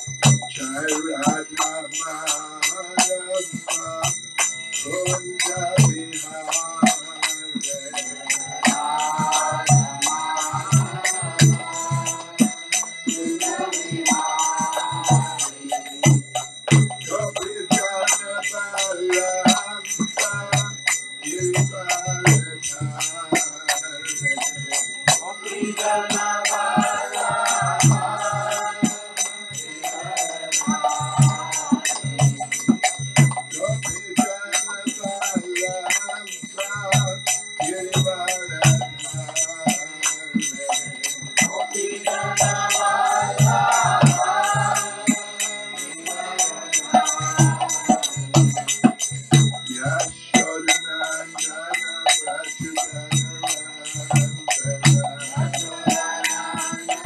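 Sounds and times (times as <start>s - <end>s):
hand cymbals ringing: 0.0s - 57.0s
man singing a chant: 0.0s - 57.0s.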